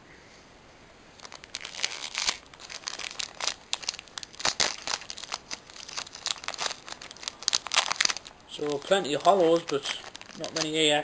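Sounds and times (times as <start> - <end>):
foil wrapper crinkling and tearing: 1.2 - 11.0.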